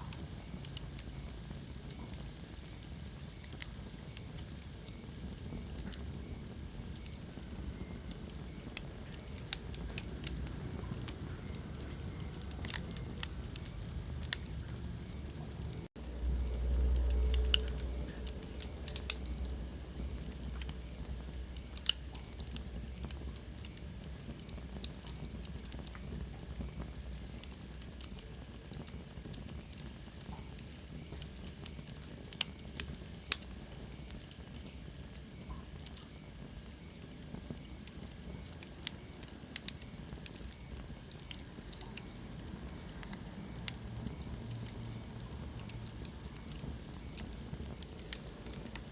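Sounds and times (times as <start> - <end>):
fire crackling and popping: 0.0 - 48.9
fire rumbling: 0.0 - 48.9.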